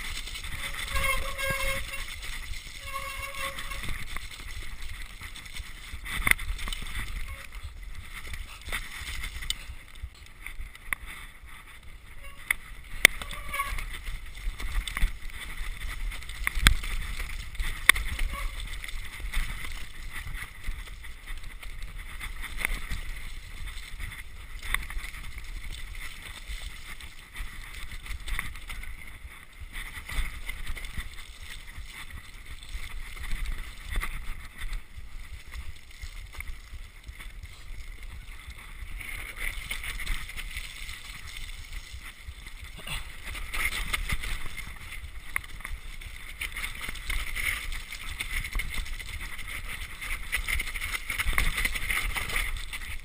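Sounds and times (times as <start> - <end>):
bike rattling over bumps: 0.0 - 53.0
wind rumble on microphone: 0.0 - 53.0.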